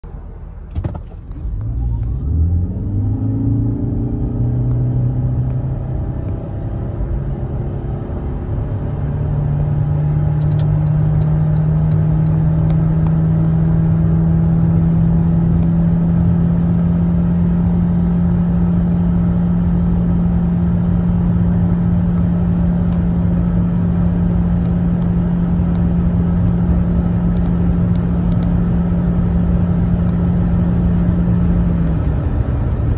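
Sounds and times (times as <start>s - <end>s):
road and wind rumble: 0.0s - 32.9s
car engine accelerating hard: 0.8s - 32.9s.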